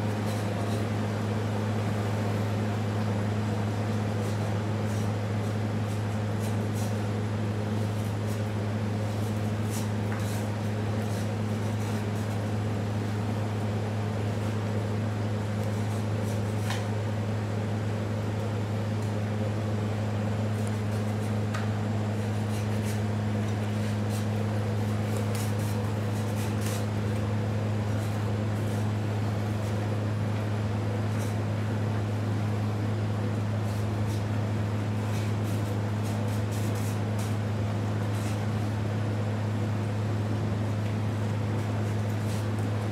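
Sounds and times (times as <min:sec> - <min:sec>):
low machine hum: 0:00.0 - 0:42.9.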